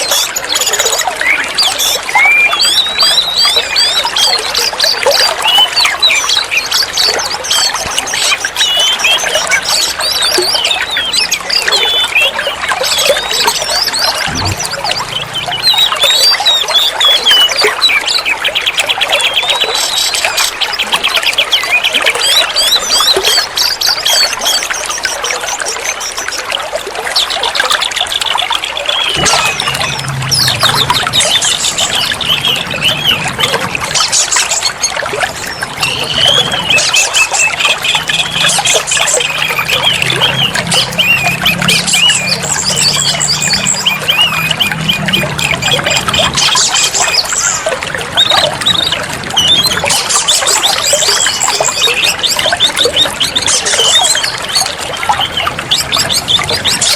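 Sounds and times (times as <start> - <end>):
bird singing whistles and trills: 0.0 - 56.9
water trickling: 0.0 - 56.9.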